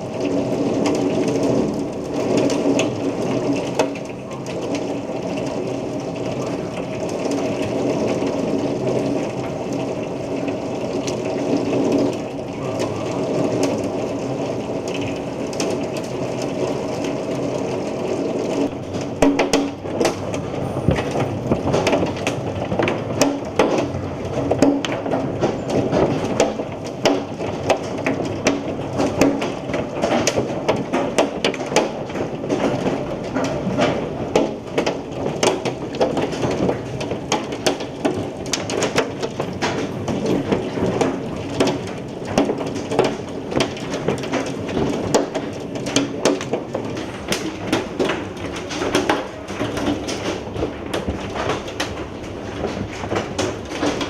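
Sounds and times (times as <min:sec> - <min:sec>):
hailstones pelting down: 0:00.0 - 0:54.0.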